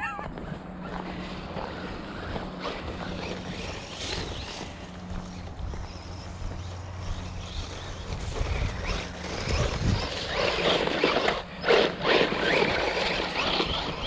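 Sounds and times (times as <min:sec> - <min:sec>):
electric motor whine: 0:00.2 - 0:14.0
tyres crunching over gravel: 0:00.2 - 0:14.0.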